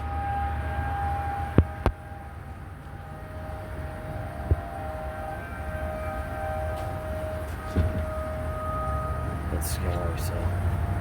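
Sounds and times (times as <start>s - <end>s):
tornado siren steady tone: 0.0s - 11.0s.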